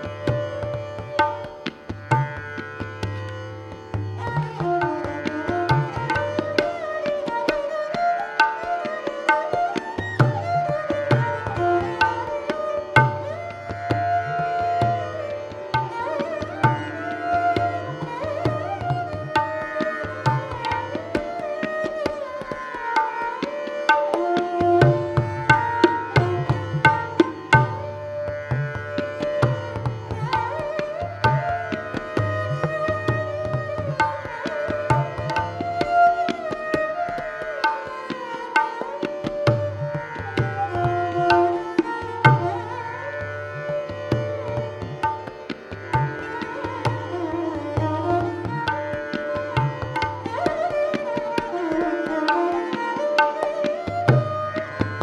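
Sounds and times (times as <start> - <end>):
bowed string instrument melody: 0.0 - 55.0
tabla drumming: 0.0 - 55.0.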